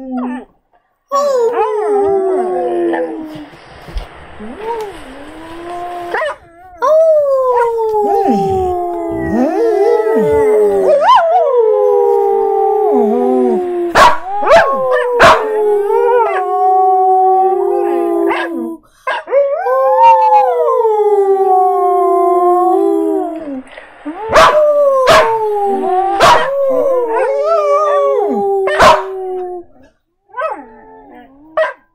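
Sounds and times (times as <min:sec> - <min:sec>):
dog howling: 0:04.1 - 0:31.7.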